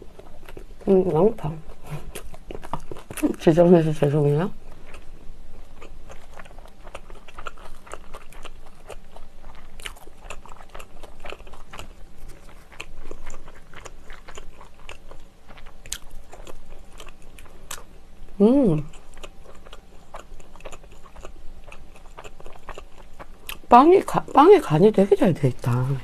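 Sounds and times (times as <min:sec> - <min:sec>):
biting and chewing bread roll: 0:00.0 - 0:03.5, 0:04.7 - 0:18.1, 0:18.8 - 0:23.7
crust crackling: 0:00.0 - 0:26.0.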